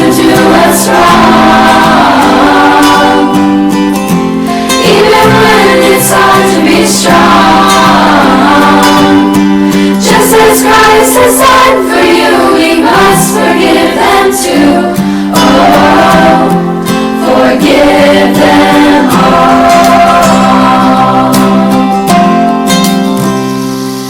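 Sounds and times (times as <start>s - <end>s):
group of voices singing: 0.0s - 22.7s
instrumental backing: 0.0s - 24.0s.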